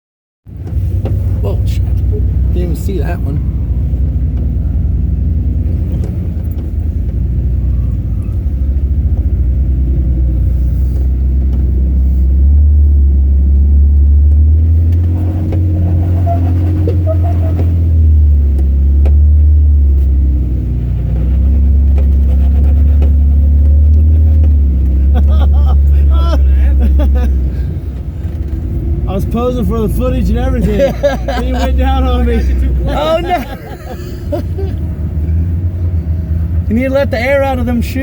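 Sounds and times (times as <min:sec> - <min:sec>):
engine deep low rumble: 0:00.5 - 0:38.0.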